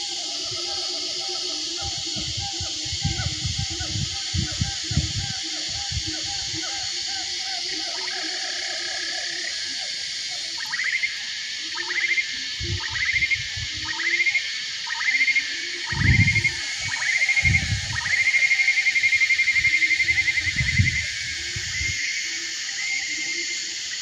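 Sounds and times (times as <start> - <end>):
lower hooting calls: 0.0 - 23.7
high insect drone: 0.0 - 24.0.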